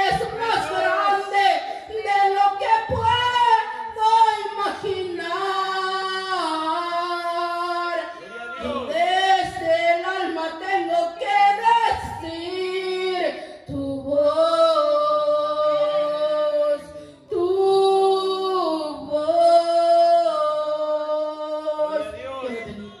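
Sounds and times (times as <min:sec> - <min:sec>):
woman singing into microphone: 0:00.0 - 0:23.0.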